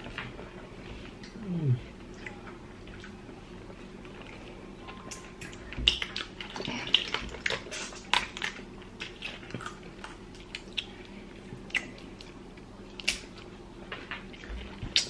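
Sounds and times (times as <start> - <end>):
soft wet sounds: 0.5 - 15.0
chewing: 2.0 - 15.0.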